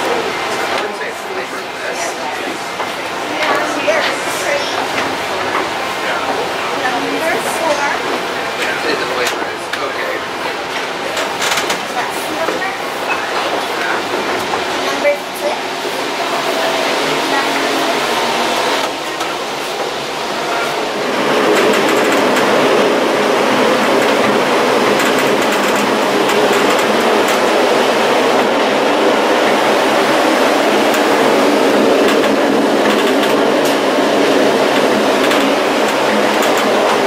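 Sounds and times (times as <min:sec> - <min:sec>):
tram capsule rumbling rattle: 0:00.0 - 0:37.0.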